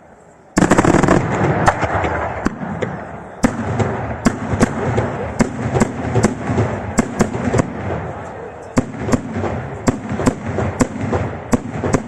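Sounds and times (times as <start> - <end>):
fireworks crackling rumble: 0.0 - 12.0
fireworks bangs: 0.6 - 12.0.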